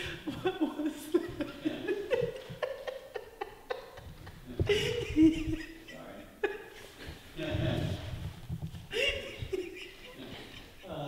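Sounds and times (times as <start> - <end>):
man laughing: 0.0 - 6.8, 7.4 - 8.1, 8.9 - 11.0.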